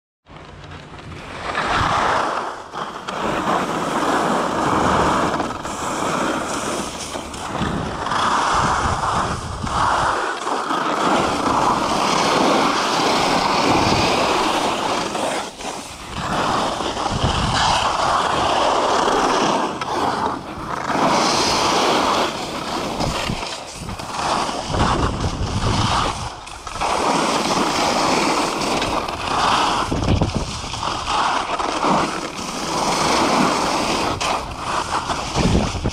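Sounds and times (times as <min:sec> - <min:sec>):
skis scraping over snow: 0:00.3 - 0:35.9
wind on microphone: 0:01.0 - 0:02.3, 0:03.4 - 0:10.3, 0:11.0 - 0:19.6, 0:20.2 - 0:35.9.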